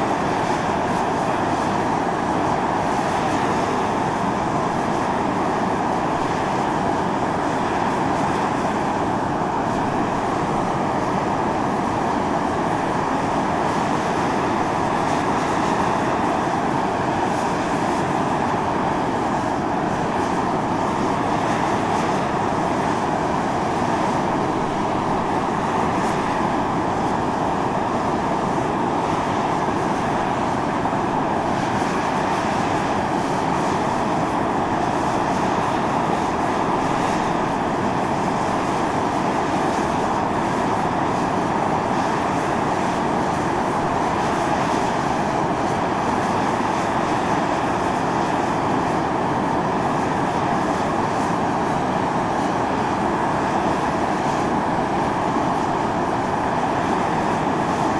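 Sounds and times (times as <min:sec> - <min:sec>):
steam hissing from a vent: 0:00.0 - 0:57.9.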